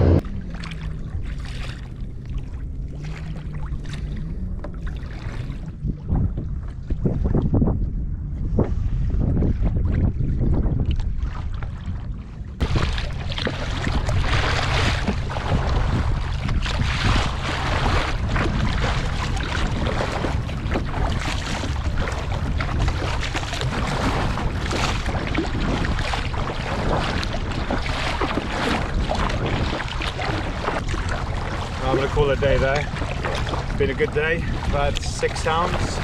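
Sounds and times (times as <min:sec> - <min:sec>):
choppy water washing: 0:00.0 - 0:36.0
strong wind buffeting microphone: 0:00.0 - 0:36.0.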